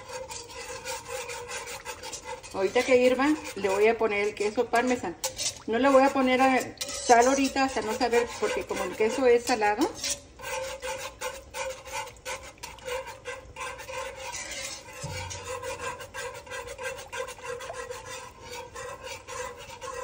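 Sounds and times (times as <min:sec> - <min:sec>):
wire whisk scraping a pan: 0:00.0 - 0:20.0.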